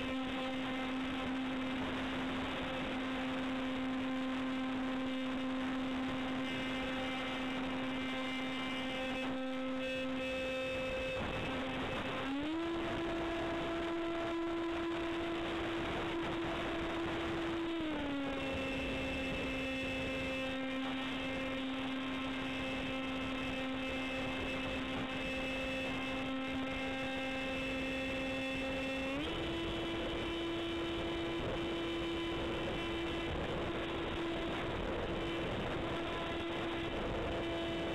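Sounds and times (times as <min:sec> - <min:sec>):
electric motor and propeller whine: 0:00.0 - 0:37.9.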